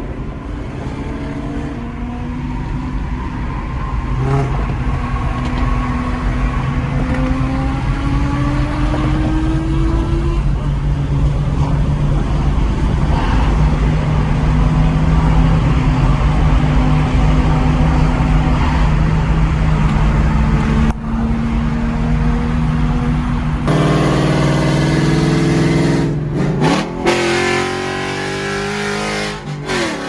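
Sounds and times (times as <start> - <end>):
deep steady rumble: 0.0 - 27.3
car engine accelerating: 0.0 - 30.0.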